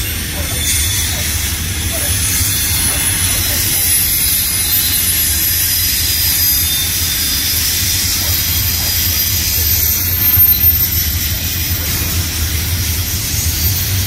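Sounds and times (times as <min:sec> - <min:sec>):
steel train wheels rumbling on rail: 0:00.0 - 0:14.0.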